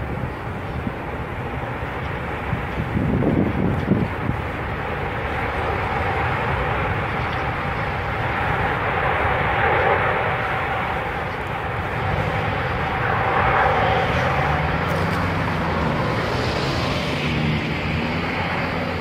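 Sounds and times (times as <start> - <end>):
faint jet engine whine: 0.0 - 19.0
jet engines rushing: 0.0 - 19.0.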